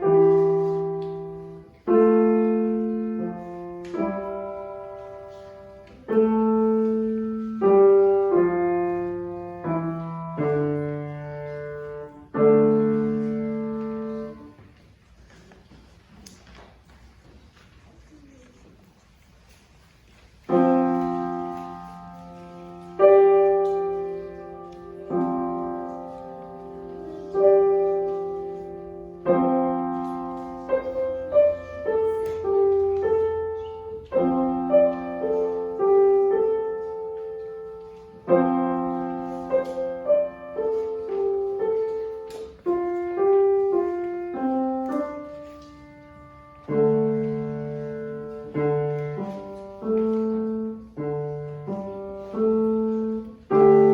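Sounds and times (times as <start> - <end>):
slow solo piano: 0.0 - 53.9.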